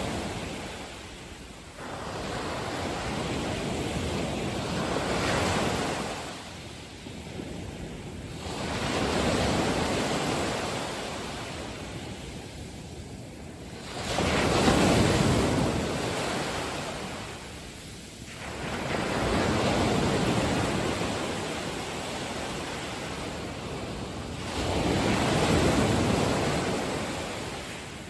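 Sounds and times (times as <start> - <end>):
sea waves washing in: 0.0 - 28.0.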